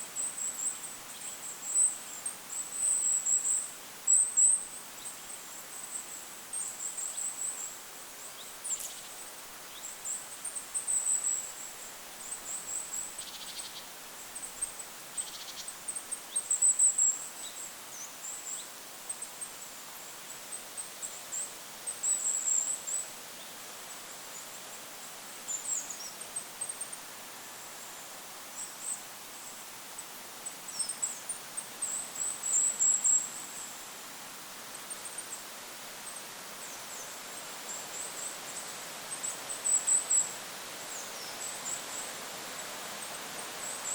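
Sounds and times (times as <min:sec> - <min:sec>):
wind hiss: 0:00.0 - 0:43.9.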